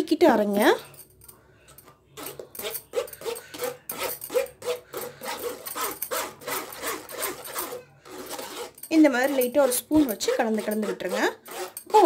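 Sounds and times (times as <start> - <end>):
metal spoon scraping mesh strainer: 1.7 - 12.0.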